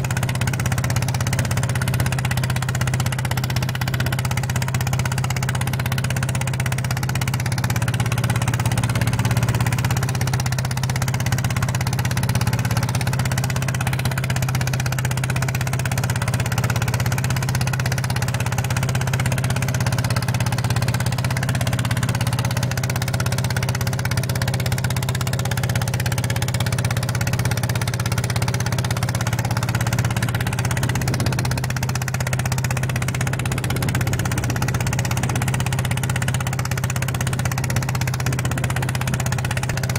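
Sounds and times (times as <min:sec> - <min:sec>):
mini tractor engine running: 0:00.0 - 0:39.9.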